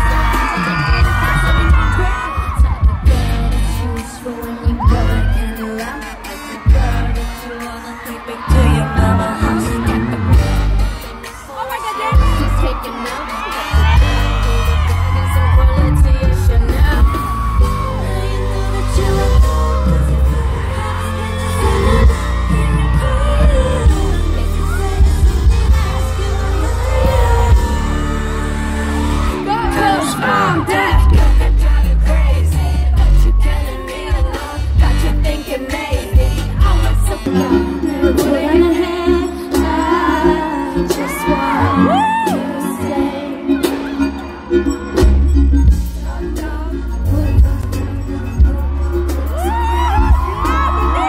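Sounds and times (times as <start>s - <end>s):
crowd whooping: 0.0s - 45.1s, 46.4s - 51.0s
pop song with woman singing: 0.0s - 51.0s.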